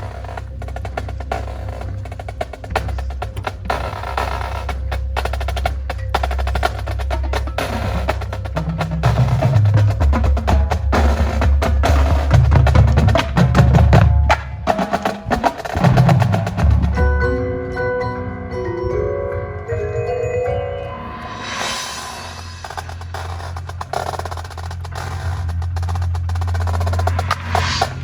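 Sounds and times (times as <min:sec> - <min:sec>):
snare drum rolls: 0:00.0 - 0:17.0, 0:21.4 - 0:28.0
marimba: 0:00.0 - 0:24.4.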